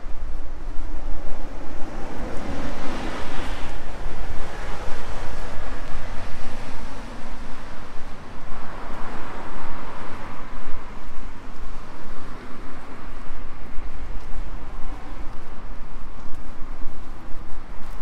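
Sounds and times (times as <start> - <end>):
city traffic: 0.0 - 18.0
wind buffeting microphone: 0.0 - 18.0.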